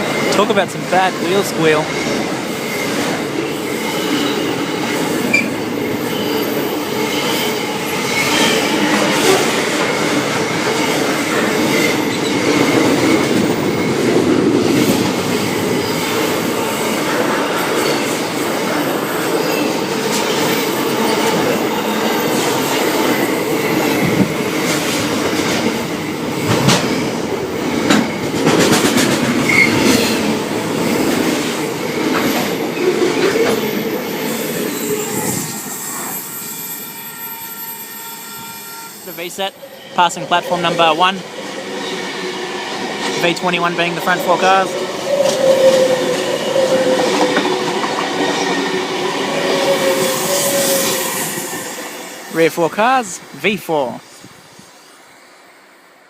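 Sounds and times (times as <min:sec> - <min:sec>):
train wagons rumbling: 0:00.0 - 0:35.6, 0:39.9 - 0:51.9
train wheel squeal: 0:01.3 - 0:27.2, 0:29.4 - 0:52.4.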